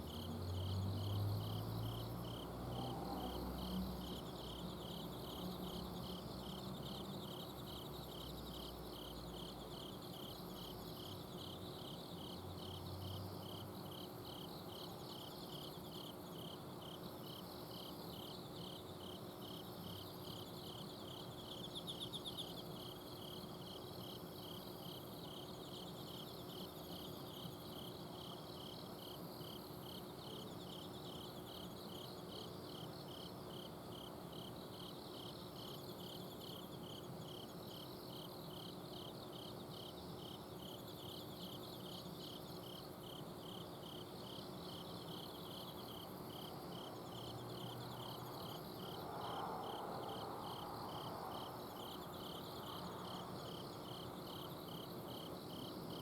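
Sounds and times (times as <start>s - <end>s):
cricket chirping: 0.0s - 56.0s
trilling insects: 0.0s - 56.0s.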